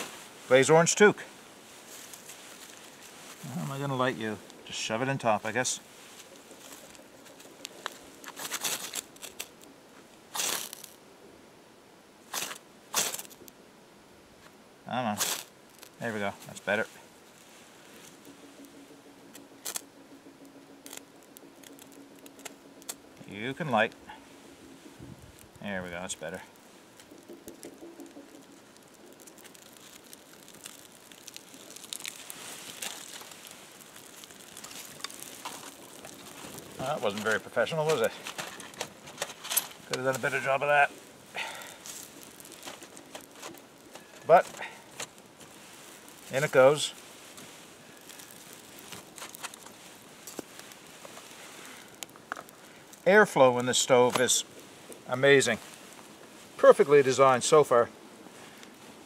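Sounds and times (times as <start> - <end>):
fire crackling and popping: 0.0 - 59.0
bark crinkling: 1.7 - 11.0, 15.2 - 56.9.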